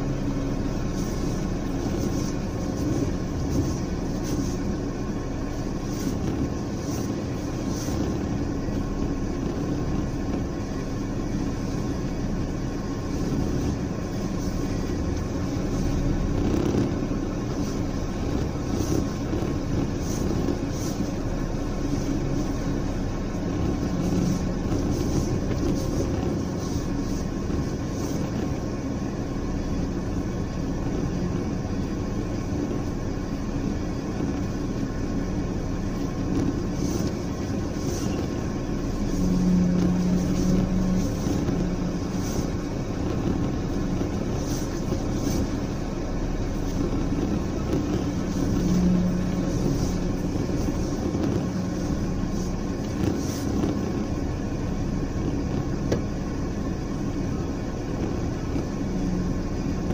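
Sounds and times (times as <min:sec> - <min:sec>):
low hum: 0:00.0 - 0:59.9
motor vehicle rumble: 0:00.0 - 0:59.9.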